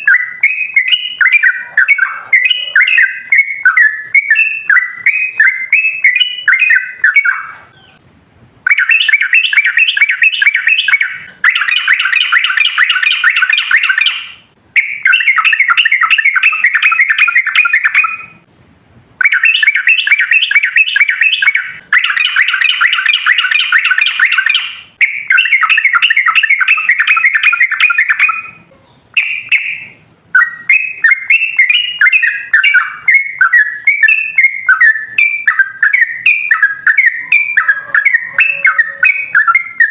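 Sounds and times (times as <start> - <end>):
bulbul rolling chatter song: 0.0 - 39.9.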